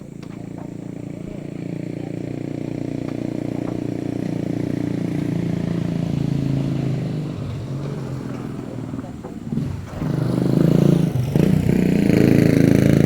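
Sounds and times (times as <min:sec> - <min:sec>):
truck engine under load: 0:00.0 - 0:13.0.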